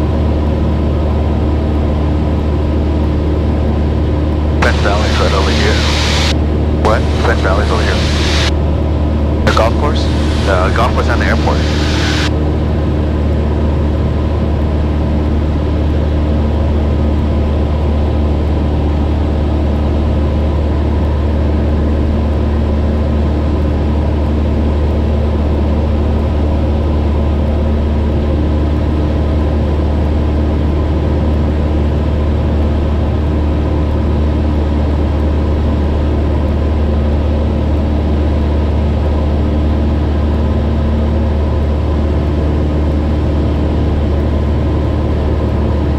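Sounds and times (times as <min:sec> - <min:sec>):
airplane engine droning in cabin: 0:00.0 - 0:45.9.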